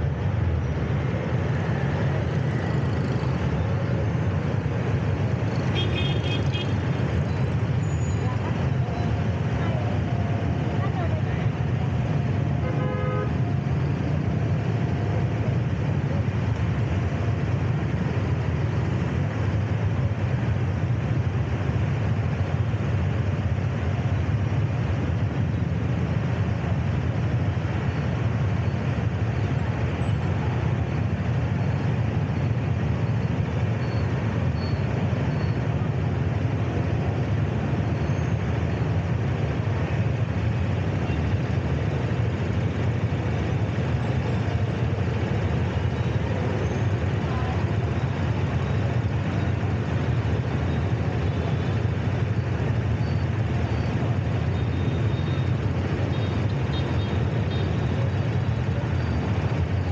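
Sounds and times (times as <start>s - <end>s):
city traffic rumble: 0.0s - 59.9s
wind: 0.0s - 59.9s.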